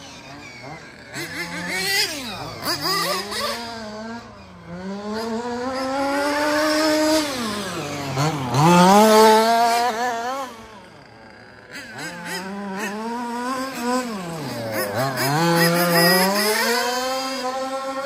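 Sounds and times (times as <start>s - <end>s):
model car engine revving: 0.0s - 18.0s.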